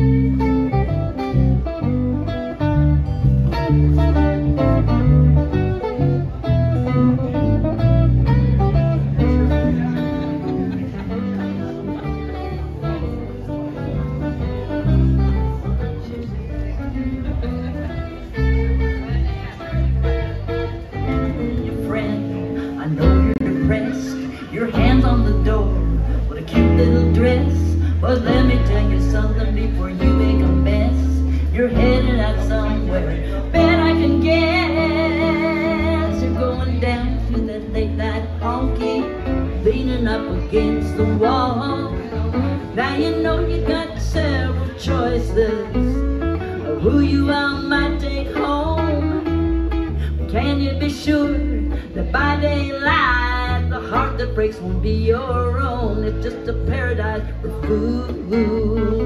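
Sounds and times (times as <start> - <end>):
live country band playing: 0.0 - 59.0.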